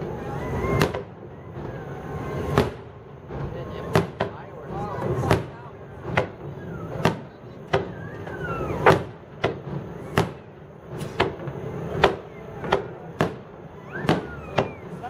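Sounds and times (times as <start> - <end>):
fireworks bangs: 0.0 - 15.0
high gliding whistles: 0.0 - 15.0.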